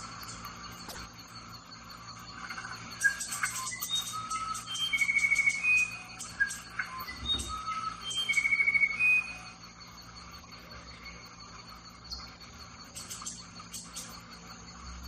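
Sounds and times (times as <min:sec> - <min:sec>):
faint bird chirps: 0:00.0 - 0:15.0
insects humming: 0:00.0 - 0:15.0
songbird whistled trill: 0:00.0 - 0:15.0.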